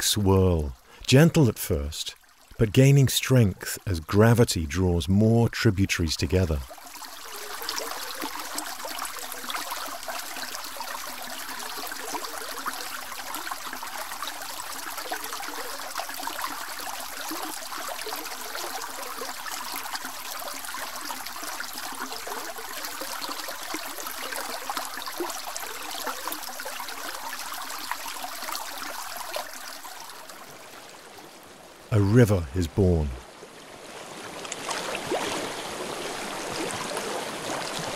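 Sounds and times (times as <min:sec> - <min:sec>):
stream water burbling: 0:00.0 - 0:37.9.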